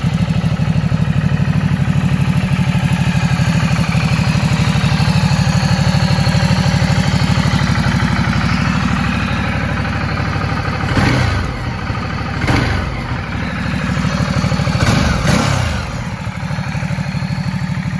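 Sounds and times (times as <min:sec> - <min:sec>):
motorcycle engine idling: 0:00.0 - 0:17.9
motorcycle engine revving: 0:00.0 - 0:17.9.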